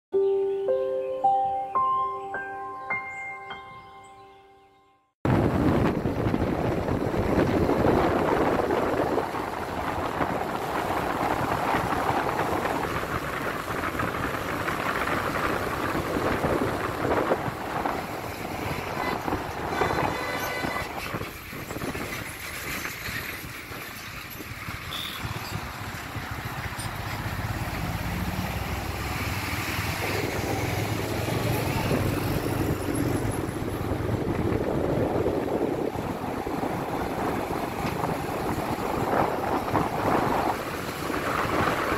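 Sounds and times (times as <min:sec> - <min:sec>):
vehicle engine and tyre noise: 0:05.3 - 0:41.9.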